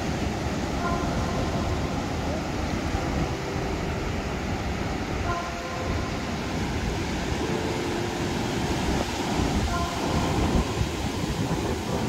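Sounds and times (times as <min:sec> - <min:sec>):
surf rumbling: 0:00.0 - 0:12.0
wind buffeting microphone: 0:00.0 - 0:12.0.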